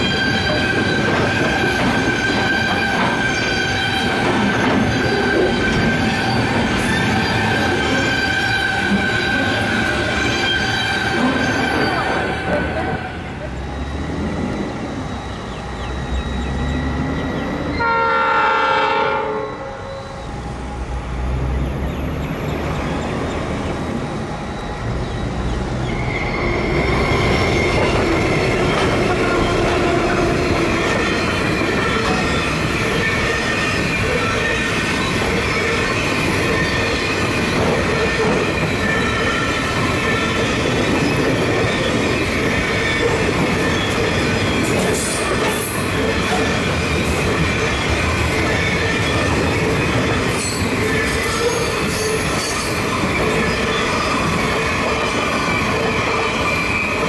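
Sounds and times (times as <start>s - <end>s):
freight train rumbling past: 0.0s - 57.0s
wheels squealing on rails: 0.0s - 57.0s.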